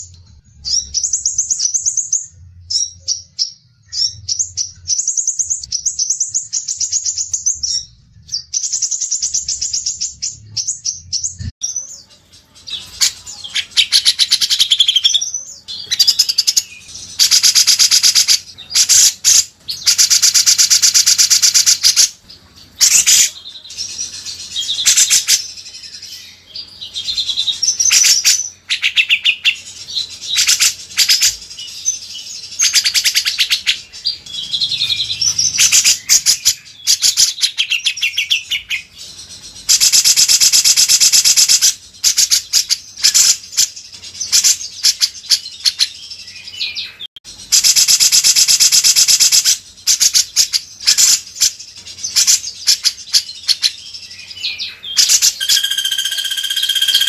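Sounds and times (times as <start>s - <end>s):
songbird trilling and chattering: 0.0s - 57.0s.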